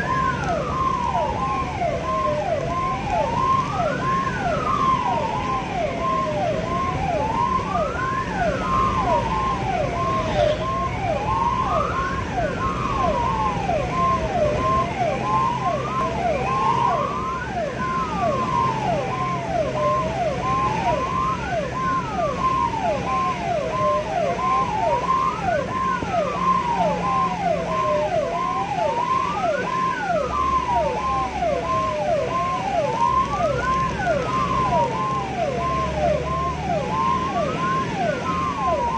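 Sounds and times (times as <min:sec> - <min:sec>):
engine and road noise: 0:00.0 - 0:38.9
siren wail: 0:00.0 - 0:38.9
siren yelp and beeps: 0:00.0 - 0:38.9.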